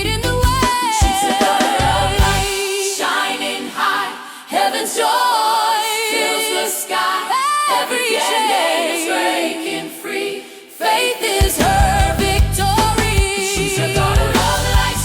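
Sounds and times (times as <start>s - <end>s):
wordless singing voices: 0.0s - 15.0s.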